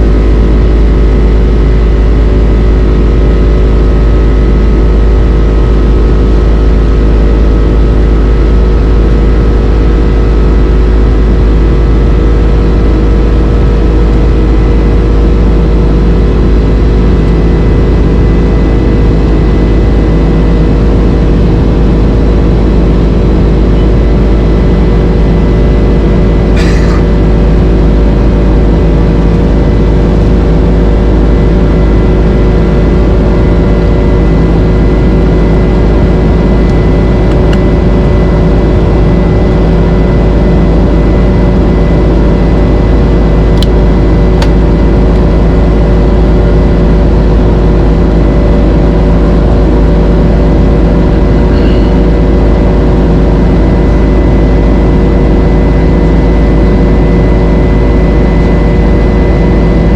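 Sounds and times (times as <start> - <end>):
jet airliner cabin noise: 0.0 - 59.9.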